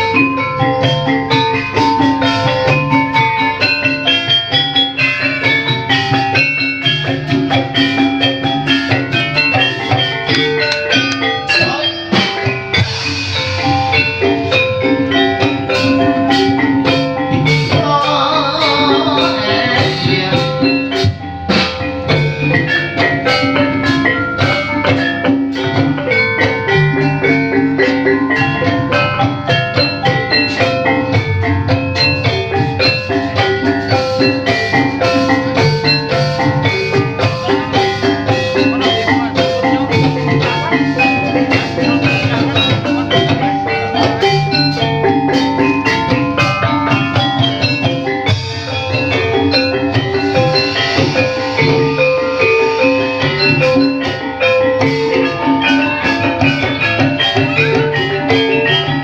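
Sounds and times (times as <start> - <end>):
drums: 0.0 - 59.0
gamelan mallet instruments: 0.0 - 59.0.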